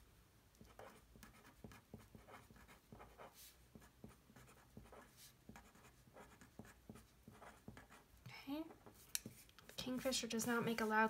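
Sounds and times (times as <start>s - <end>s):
felt-tip pen scratching on paper: 0.6s - 8.0s, 8.8s - 11.0s.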